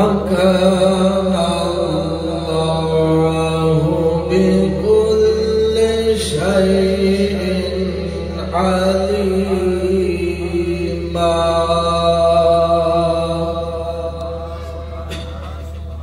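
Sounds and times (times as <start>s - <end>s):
man chanting over loudspeaker: 0.0s - 16.0s.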